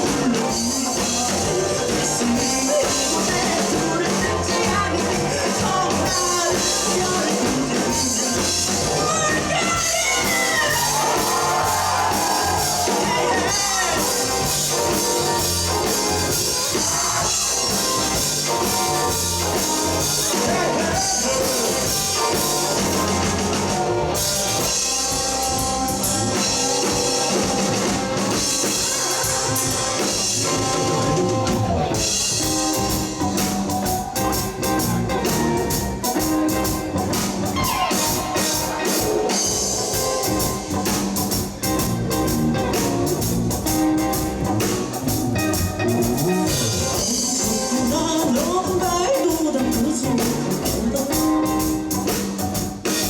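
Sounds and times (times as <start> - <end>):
live rock band playing: 0.0 - 53.0
high pitch-bending guitar part: 6.1 - 53.0.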